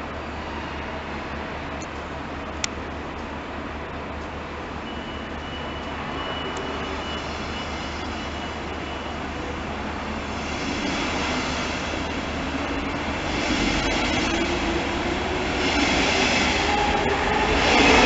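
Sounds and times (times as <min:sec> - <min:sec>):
train passing: 0:00.0 - 0:18.0.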